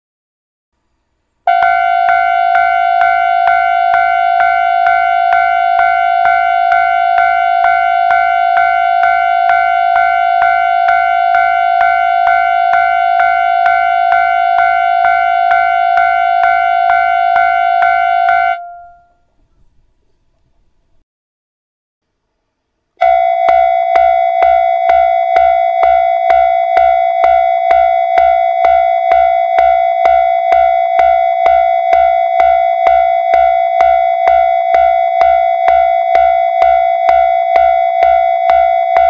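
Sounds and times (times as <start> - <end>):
electronic warning dings: 1.5 - 19.2, 23.0 - 39.0.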